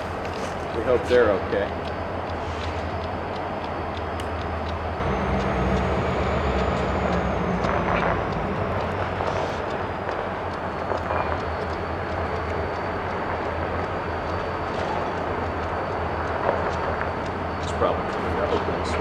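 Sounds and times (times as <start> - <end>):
locomotive engine running: 0.0 - 19.0
thin high whine: 0.0 - 19.0.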